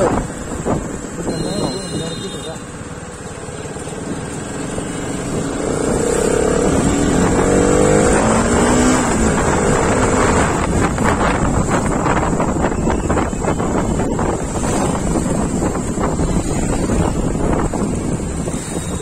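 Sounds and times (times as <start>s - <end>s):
wind rushing over microphone: 0.0s - 1.8s, 4.0s - 19.0s
motorcycle engine accelerating: 3.7s - 19.0s.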